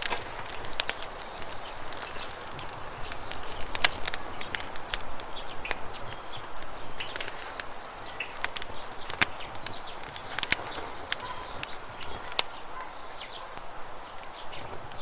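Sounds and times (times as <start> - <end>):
campfire crackling and popping: 0.0 - 15.0
bird chirps: 0.5 - 15.0.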